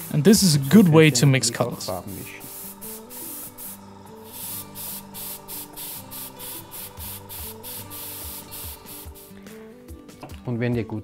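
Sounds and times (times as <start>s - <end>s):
airbrush hissing in pulses: 0.0s - 9.7s.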